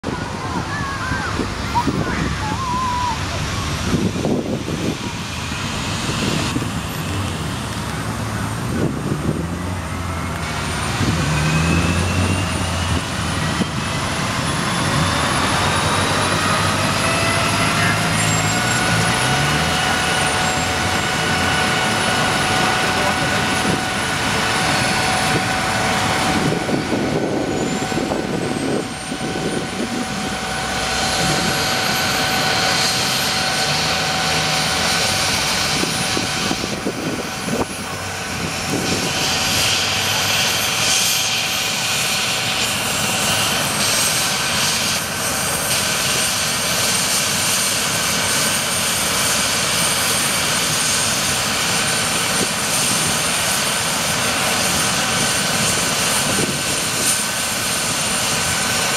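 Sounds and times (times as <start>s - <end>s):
helicopter turbine and rotor: 0.0s - 58.9s.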